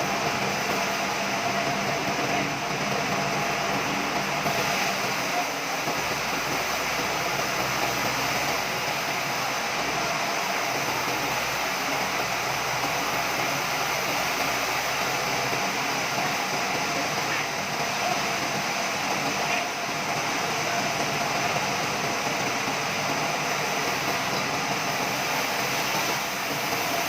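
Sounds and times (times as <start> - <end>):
sawmill machinery running: 0.0 - 27.0.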